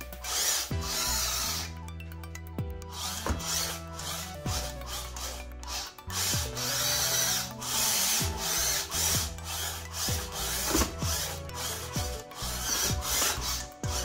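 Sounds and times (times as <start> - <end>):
toy car motors whirring: 0.0 - 14.0.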